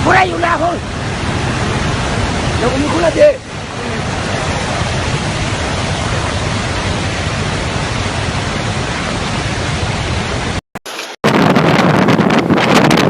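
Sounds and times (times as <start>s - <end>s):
wind buffeting microphone: 0.0s - 10.6s, 11.2s - 13.0s
steady rushing noise: 0.0s - 13.0s.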